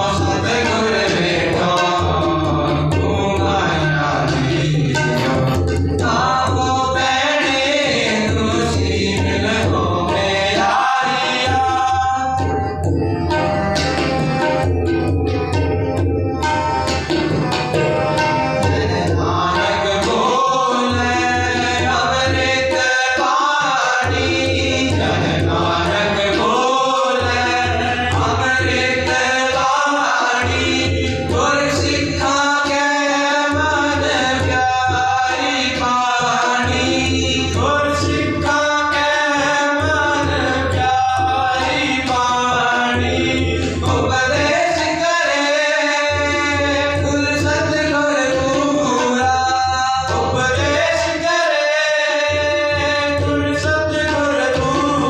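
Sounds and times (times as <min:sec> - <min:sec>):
boys singing: 0:00.0 - 0:15.0, 0:16.4 - 0:55.0
harmoniums: 0:00.0 - 0:55.0
tabla: 0:00.0 - 0:55.0.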